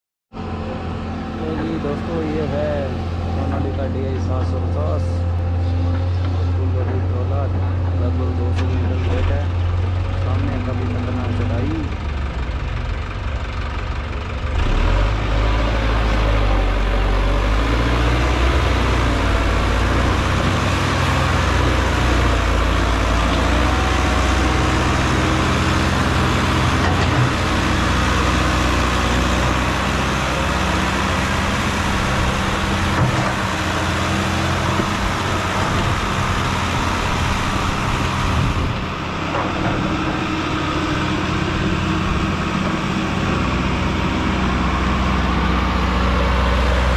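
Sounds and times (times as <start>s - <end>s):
tractor diesel engine under load: 0.3s - 46.9s.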